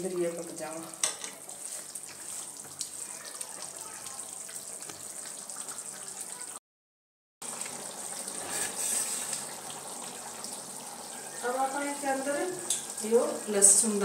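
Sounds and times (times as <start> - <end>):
gravy bubbling and hissing: 1.4 - 6.6, 7.4 - 14.0.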